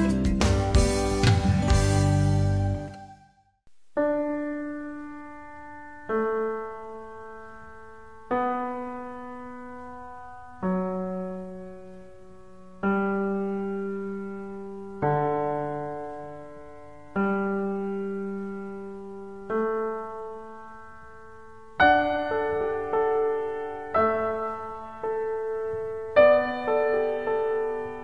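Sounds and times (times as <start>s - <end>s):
slow piano chords: 0.0s - 3.3s, 4.0s - 28.0s.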